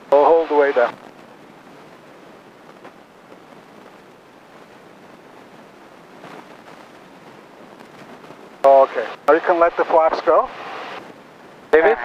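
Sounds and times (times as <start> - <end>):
airplane cabin noise hiss: 0.0 - 12.0.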